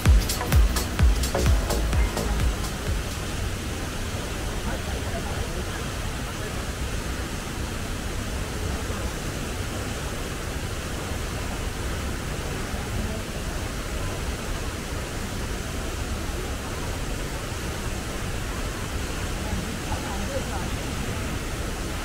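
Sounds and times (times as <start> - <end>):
waterfall pouring into pool: 1.6 - 22.0.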